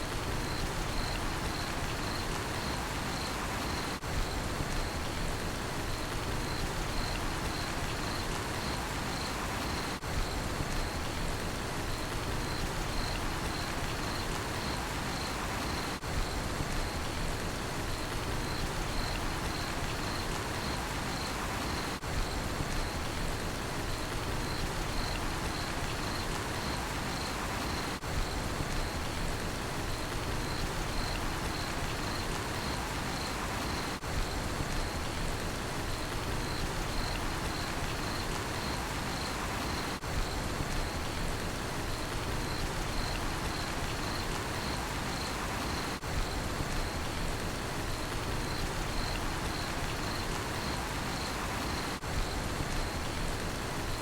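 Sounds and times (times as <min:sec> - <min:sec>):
rain falling: 0:00.0 - 0:54.0
cricket chirping: 0:00.2 - 0:05.2, 0:05.9 - 0:11.2, 0:11.8 - 0:17.2, 0:17.9 - 0:23.2, 0:23.8 - 0:29.2, 0:29.9 - 0:35.2, 0:35.8 - 0:54.0.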